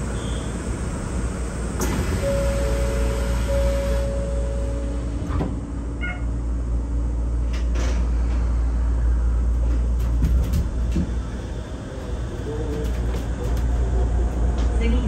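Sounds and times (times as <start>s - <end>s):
monorail car rumbling: 0.0s - 15.0s.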